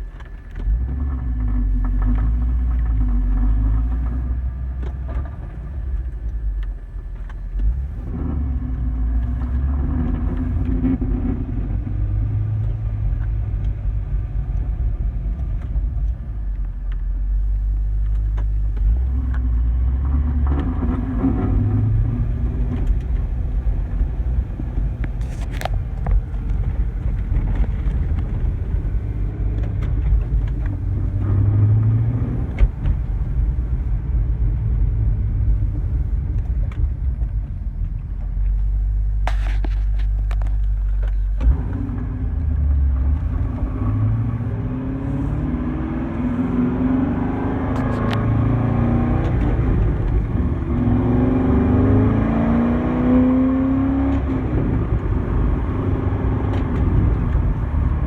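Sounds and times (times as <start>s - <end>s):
car engine rumble accelerating: 0.0s - 58.0s.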